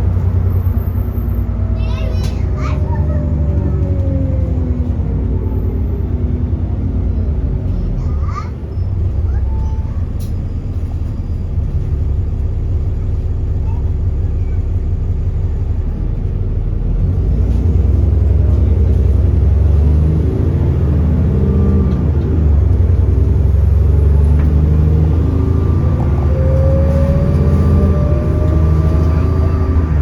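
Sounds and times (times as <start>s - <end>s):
bus diesel engine accelerating: 0.0s - 30.0s.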